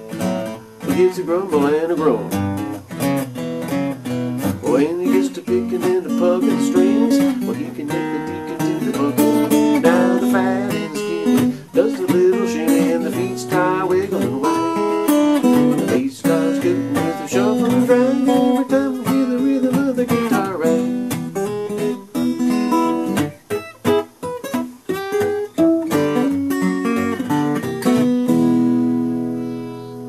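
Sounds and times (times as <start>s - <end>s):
country guitar music: 0.0s - 30.0s.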